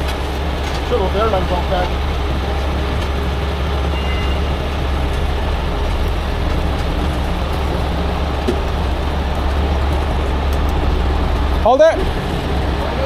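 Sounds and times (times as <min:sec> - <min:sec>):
diesel engines rumbling: 0:00.0 - 0:13.0
road and rain noise: 0:00.0 - 0:13.0.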